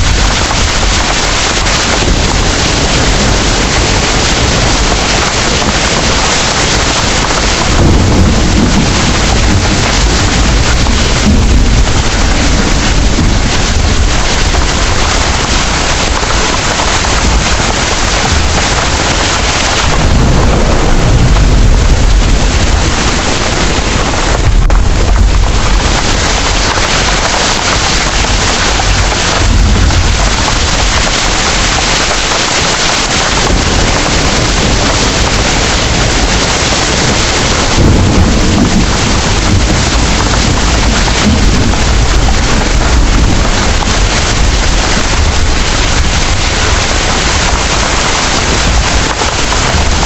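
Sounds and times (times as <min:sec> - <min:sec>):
heavy rain pouring: 0:00.0 - 0:50.0
thunder rumbling: 0:00.0 - 0:50.0.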